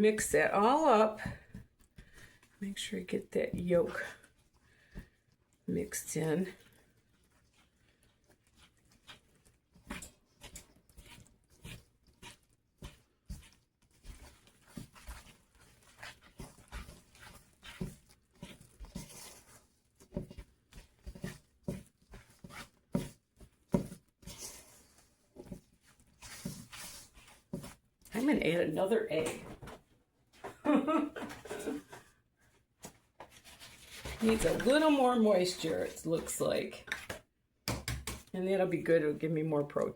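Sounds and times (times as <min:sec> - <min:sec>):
batter squishing while stirred: 0:00.0 - 0:30.4, 0:31.3 - 0:39.9.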